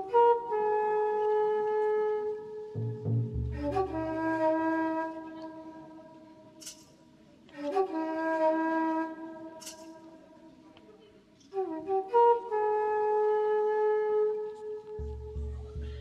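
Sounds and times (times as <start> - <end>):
wind instrument long notes: 0.0 - 6.5, 7.5 - 10.3, 11.6 - 16.0.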